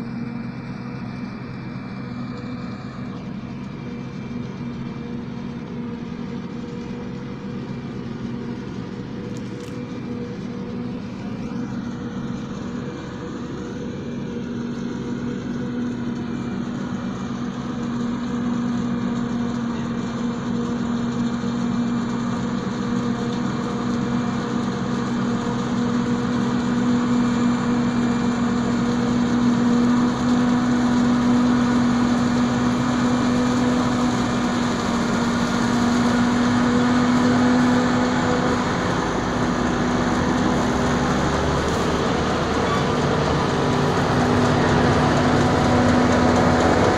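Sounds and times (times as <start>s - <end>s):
forage harvester machinery drone: 0.0s - 46.9s.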